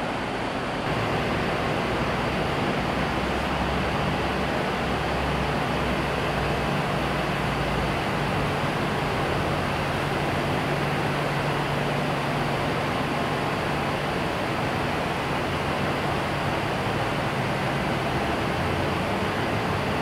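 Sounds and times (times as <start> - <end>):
electric fans rushing air: 0.0 - 20.0.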